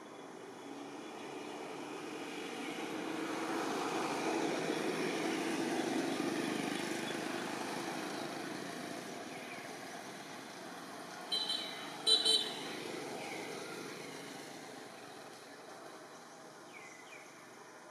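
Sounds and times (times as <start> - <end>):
motor vehicle passing by: 0.1 - 17.9.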